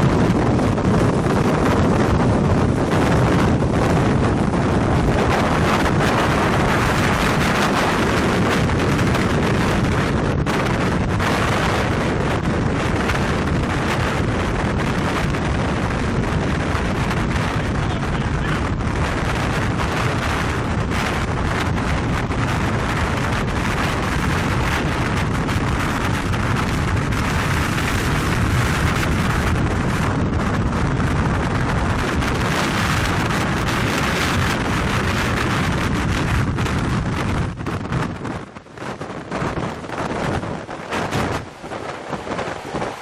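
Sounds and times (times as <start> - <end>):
strong wind buffeting microphone: 0.0 - 43.0.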